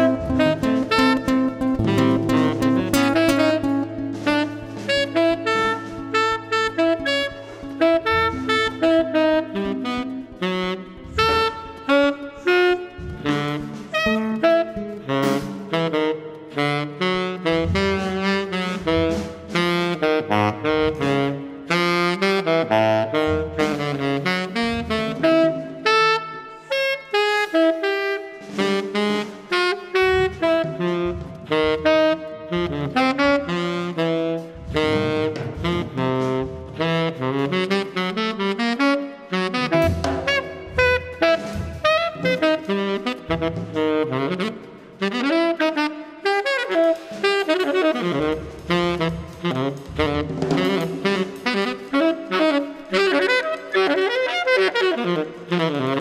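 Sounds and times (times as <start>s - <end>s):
jazz band playing: 0.0s - 56.0s
saxophone playing quick runs: 0.0s - 56.0s.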